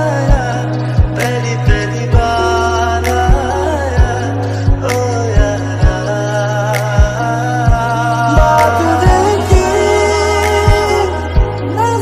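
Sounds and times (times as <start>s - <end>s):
gliding melody: 0.0s - 12.0s
held bass notes: 0.0s - 12.0s
low drum beat: 0.2s - 6.2s, 6.8s - 11.6s.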